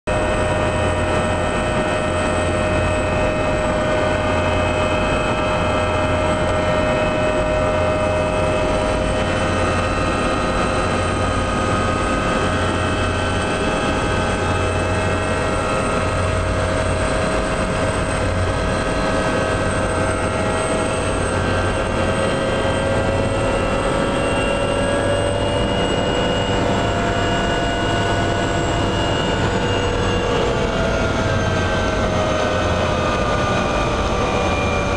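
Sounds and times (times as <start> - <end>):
helicopter engine whine: 0.1 - 34.9
helicopter rotor beat: 0.1 - 34.9.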